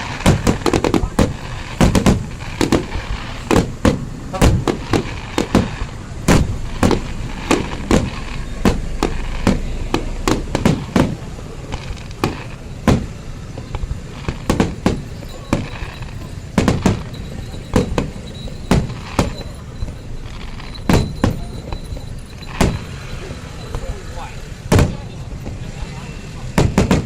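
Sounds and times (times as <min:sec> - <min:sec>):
fireworks banging: 0:00.0 - 0:27.0
low background rumble: 0:00.0 - 0:27.0.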